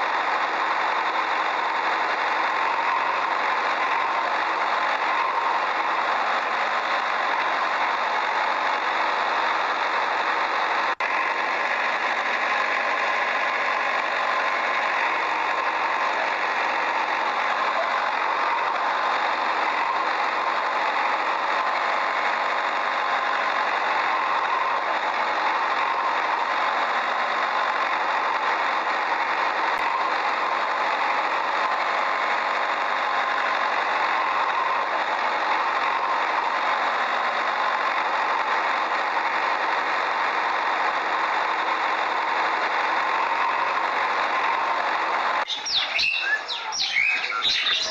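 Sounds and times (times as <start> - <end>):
motor running steadily: 0.0 - 47.9.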